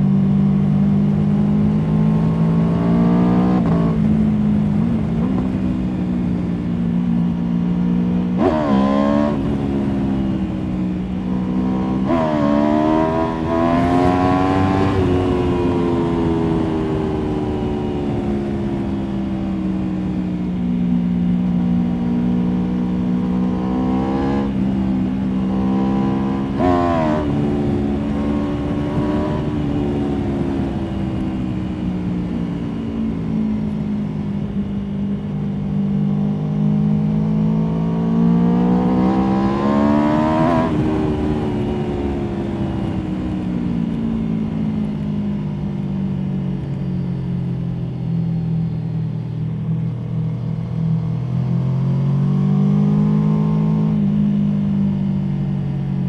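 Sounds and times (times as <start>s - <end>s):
motorcycle engine revving: 0.0s - 48.0s, 48.6s - 55.9s.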